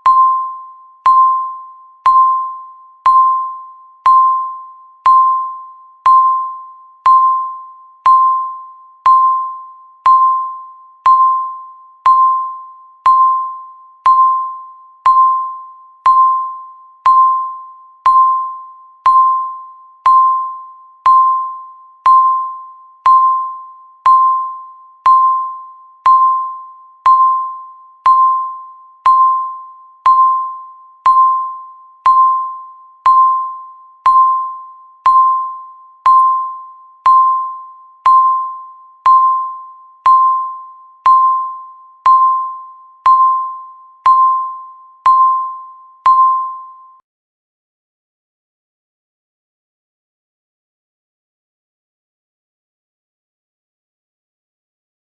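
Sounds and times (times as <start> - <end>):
countdown timer beeps: 0.0 - 47.0.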